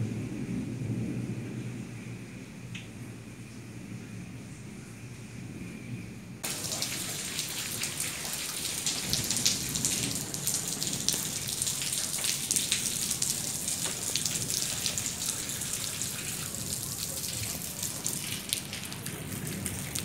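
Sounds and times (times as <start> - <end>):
rain pattering: 0.0 - 3.8, 6.4 - 20.0.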